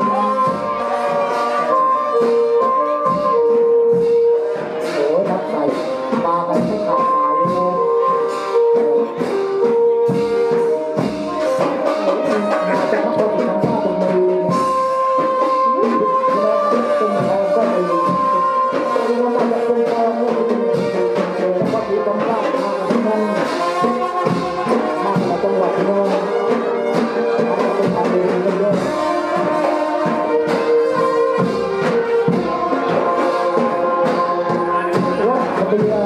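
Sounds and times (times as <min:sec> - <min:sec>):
drum beats: 0:00.0 - 0:36.0
trumpets and trombones: 0:00.0 - 0:36.0.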